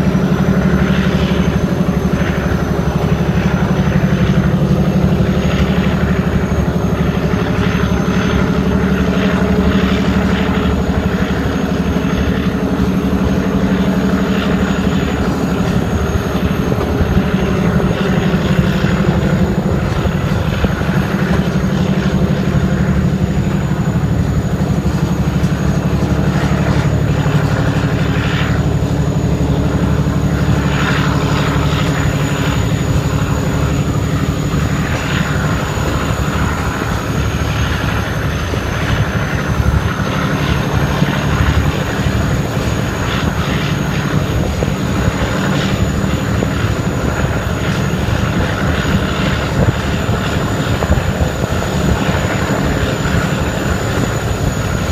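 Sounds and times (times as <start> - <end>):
diesel locomotive engine drone: 0.0 - 54.9
wheel and rail noise: 0.0 - 54.9.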